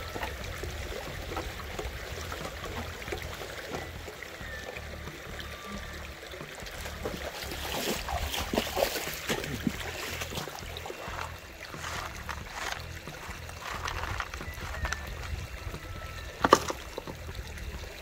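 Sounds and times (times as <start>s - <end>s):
creek water splashing by hand: 0.0s - 18.0s.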